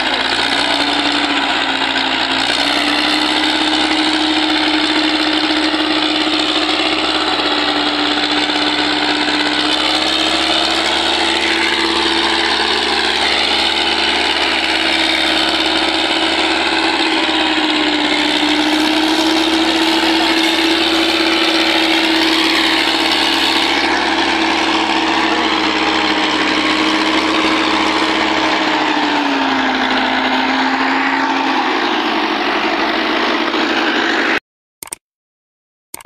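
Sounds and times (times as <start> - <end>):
diesel tractor engine under load: 0.0 - 35.0.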